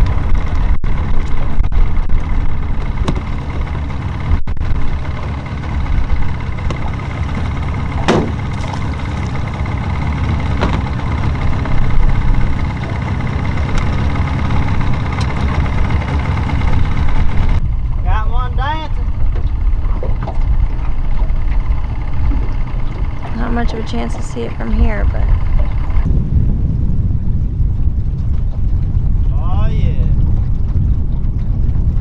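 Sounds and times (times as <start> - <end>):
outboard motor idling: 0.0 - 26.1, 27.2 - 32.0.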